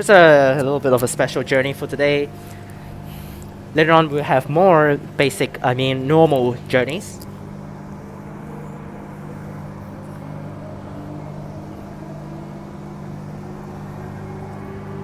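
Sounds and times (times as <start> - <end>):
traction motor whine: 0.0 - 15.0
train cabin low hum: 0.0 - 15.0.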